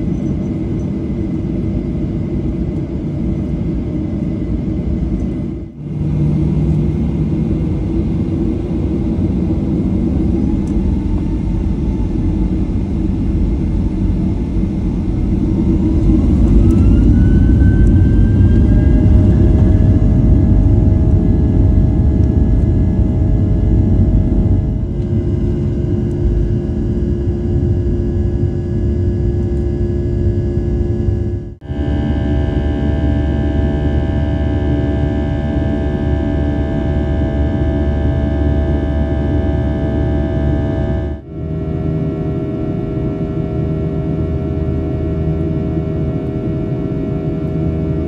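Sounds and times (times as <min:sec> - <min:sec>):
jet engine rumble and whir: 0:00.0 - 0:48.0
jet engine whine rising: 0:00.0 - 0:48.0.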